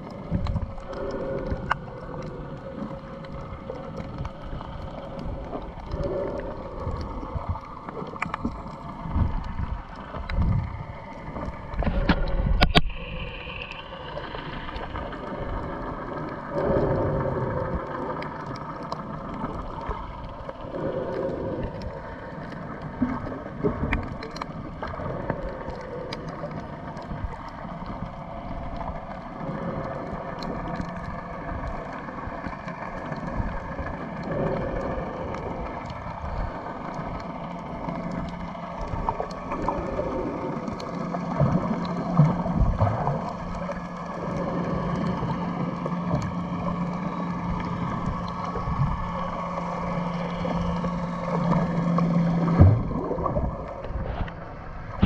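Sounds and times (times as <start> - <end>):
muffled underwater water wash: 0.0 - 55.0
small clicks and crackles: 0.0 - 55.0
steady low hum: 0.0 - 55.0.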